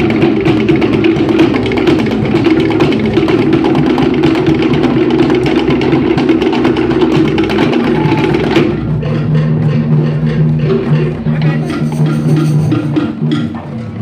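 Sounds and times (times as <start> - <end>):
skin drums: 0.0 - 14.0
wooden slit drums struck: 0.0 - 14.0.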